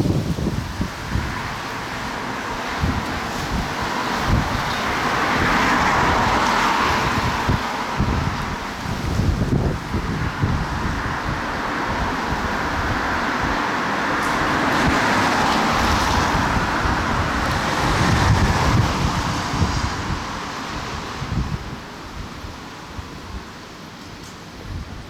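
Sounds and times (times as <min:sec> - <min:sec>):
wind buffeting microphone: 0:00.0 - 0:23.7, 0:24.5 - 0:25.0
wind rushing through foliage: 0:00.0 - 0:25.0.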